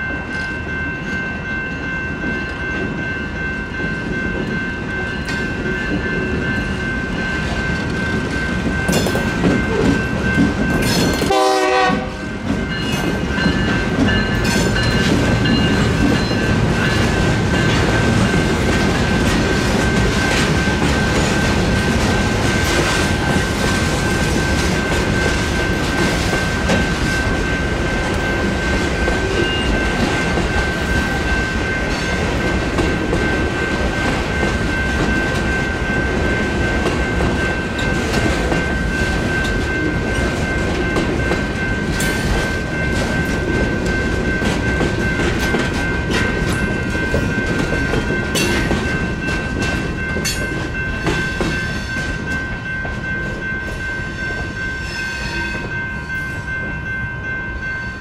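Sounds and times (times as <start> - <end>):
freight train wheels clanking: 0.0 - 57.3
crossing bell ringing: 0.0 - 58.0.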